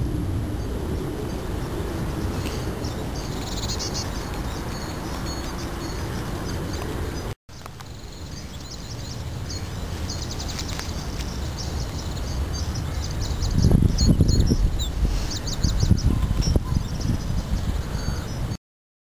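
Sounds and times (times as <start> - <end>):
low outdoor rumble: 0.0 - 17.2
songbirds chirping: 0.5 - 18.5.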